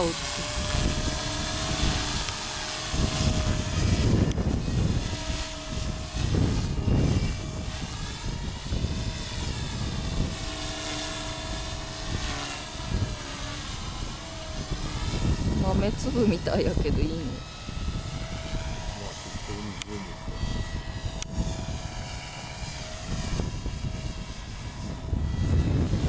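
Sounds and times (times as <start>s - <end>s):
rc helicopter motor whine: 0.0s - 26.0s
wind buffeting microphone: 0.0s - 26.0s.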